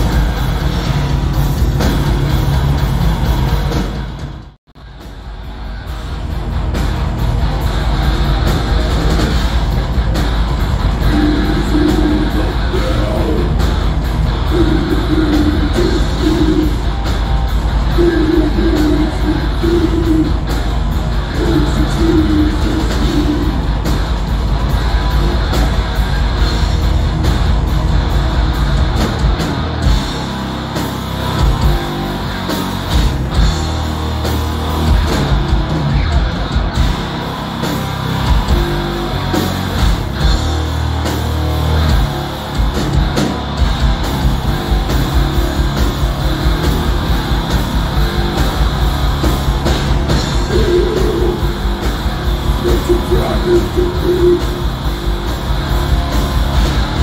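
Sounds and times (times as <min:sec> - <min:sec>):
distorted guitars and bass: 0:00.0 - 0:57.0
fast drums: 0:00.0 - 0:57.0.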